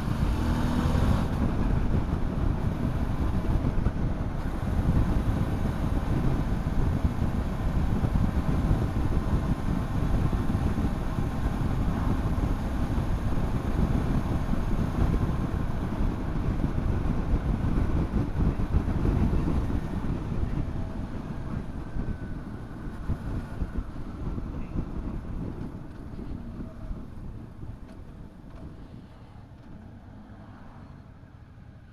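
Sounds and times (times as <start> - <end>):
motorcycle engine drone: 0.0 - 28.8
wind rushing over microphone: 0.0 - 31.2.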